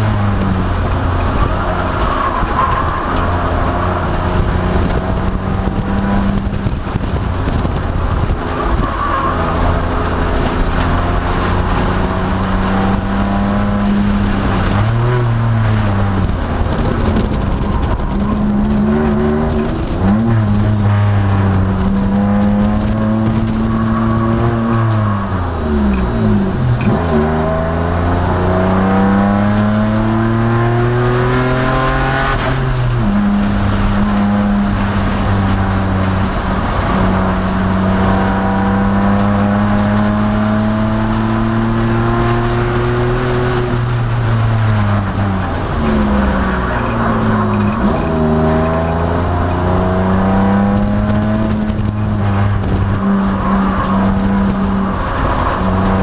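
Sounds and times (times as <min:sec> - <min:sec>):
gear change: 0:00.0 - 0:56.0
race car engine revving: 0:00.0 - 0:56.0.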